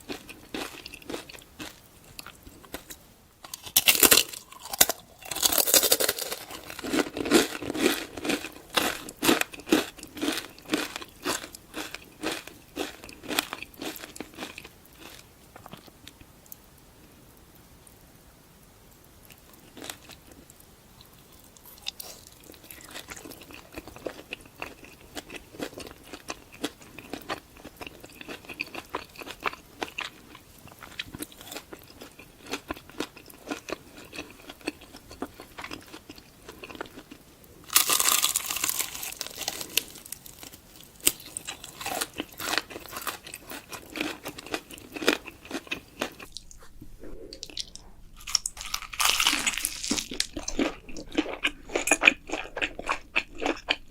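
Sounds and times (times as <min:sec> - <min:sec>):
crunchy bites and chewing: 0:00.0 - 0:16.0, 0:21.6 - 0:46.6, 0:47.4 - 0:53.9.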